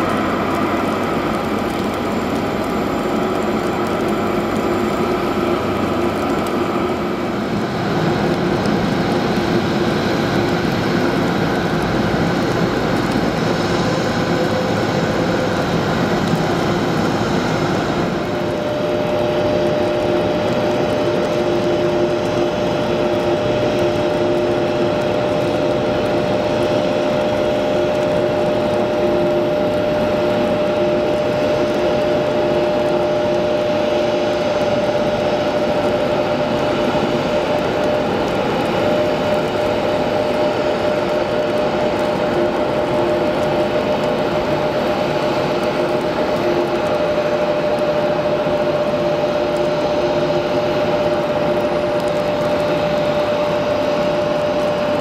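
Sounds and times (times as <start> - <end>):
higher steady whine: 0.0 - 55.0
jet engines idling: 0.0 - 55.0.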